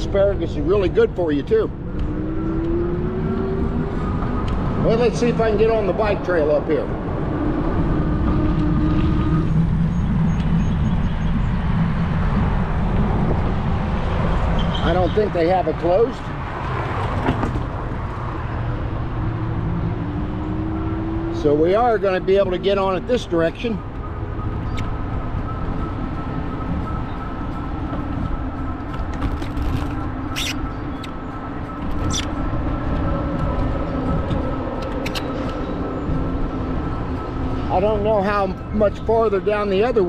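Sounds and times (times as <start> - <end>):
road traffic passing: 0.0 - 40.0
vehicle engine hum: 0.0 - 40.0
wind rumble on microphone: 0.0 - 40.0.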